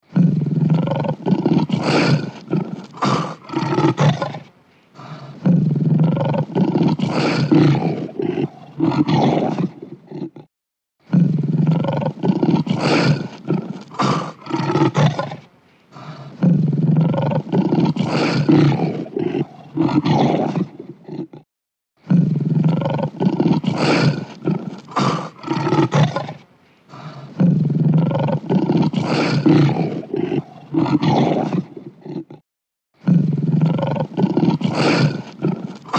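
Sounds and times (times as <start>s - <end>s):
lion roaring: 0.0s - 10.5s, 11.1s - 15.4s, 16.0s - 21.4s, 22.0s - 32.4s, 33.0s - 35.9s.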